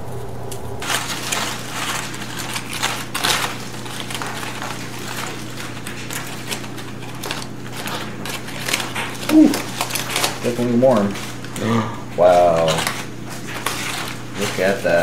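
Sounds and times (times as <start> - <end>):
aluminium foil crinkling: 0.1 - 15.0.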